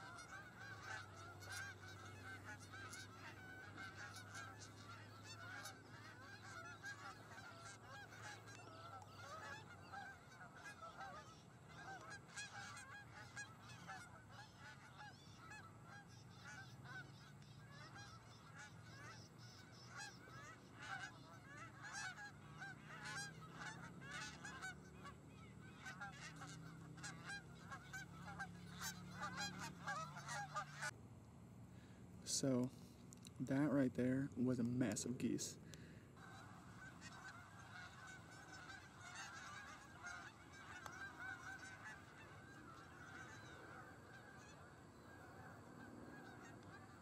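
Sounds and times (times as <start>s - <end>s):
geese honking: 0.0s - 31.0s, 33.5s - 47.0s.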